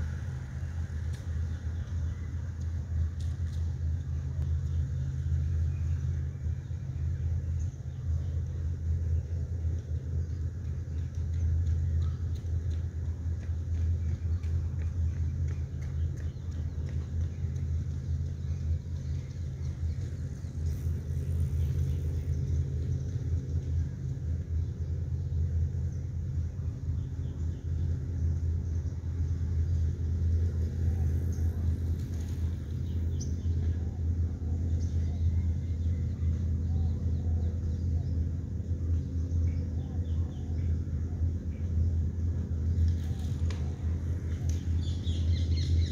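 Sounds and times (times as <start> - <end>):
faint hum: 0.0 - 45.9
low background rumble: 0.0 - 45.9.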